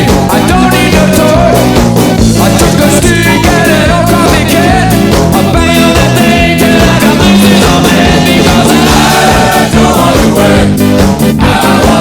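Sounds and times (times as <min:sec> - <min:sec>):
song with singing voice: 0:00.0 - 0:12.0
steady drum beat: 0:00.0 - 0:12.0.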